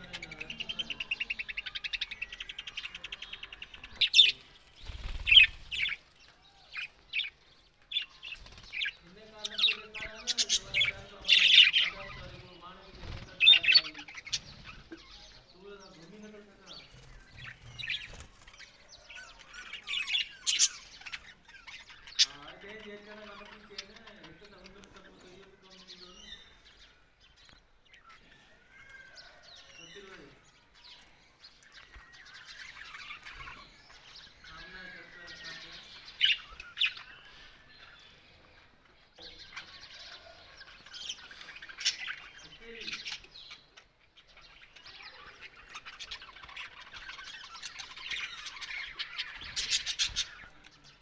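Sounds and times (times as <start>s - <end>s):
budgerigars chattering and chirping: 0.0s - 51.0s
sharp loud bird calls: 0.0s - 51.0s.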